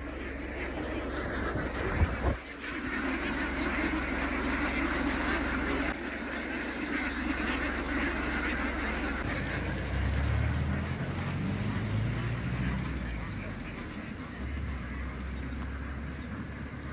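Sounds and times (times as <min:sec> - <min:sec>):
flock of ducks quacking: 0:00.0 - 0:16.9.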